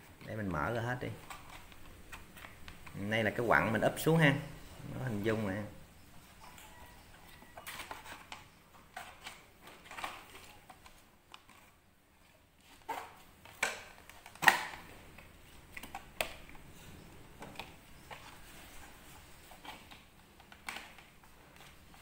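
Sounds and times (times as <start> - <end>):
plastic parts clicking and scraping: 0.2 - 3.4, 6.2 - 22.0.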